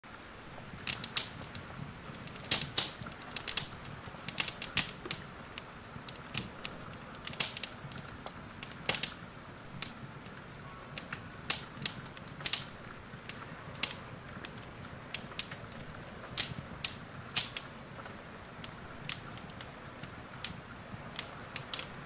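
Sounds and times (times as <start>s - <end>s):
soft hiss of rain: 0.0s - 22.0s
wood fire crackling: 0.1s - 22.0s.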